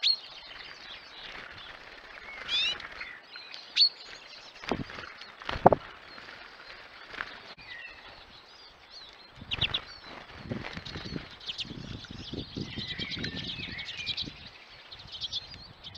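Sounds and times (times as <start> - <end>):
finches twittering: 0.0 - 15.9
wings fluttering: 0.2 - 15.1.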